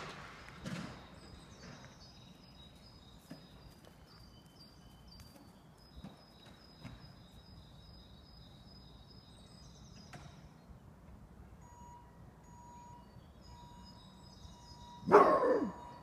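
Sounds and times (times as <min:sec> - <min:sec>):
faint high bird chirps: 0:00.5 - 0:10.8, 0:12.0 - 0:16.0.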